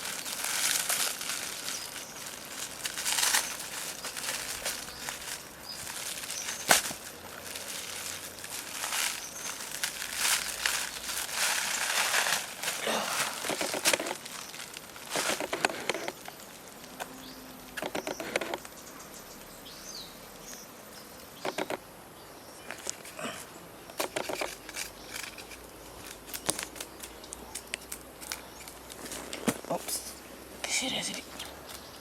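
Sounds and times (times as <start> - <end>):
background hiss: 0.0 - 32.0
rustles: 0.0 - 32.0.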